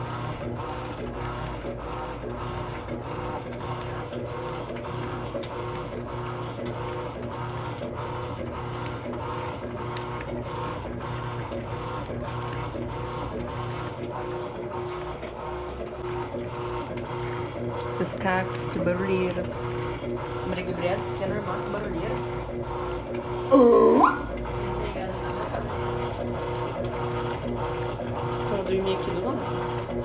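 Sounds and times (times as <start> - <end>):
rhythmic washing machine churning: 0.0 - 30.0
washing machine motor hum: 0.0 - 30.0.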